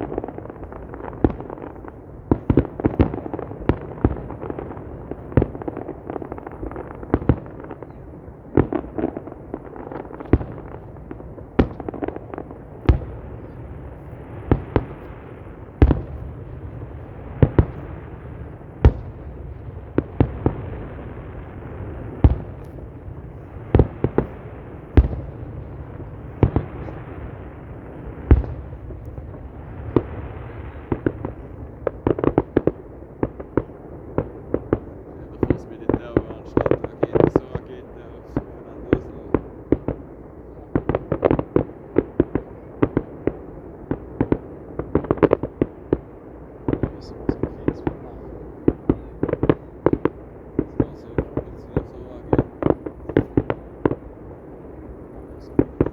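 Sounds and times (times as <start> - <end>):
firework crackling and rumble: 0.0 - 55.9.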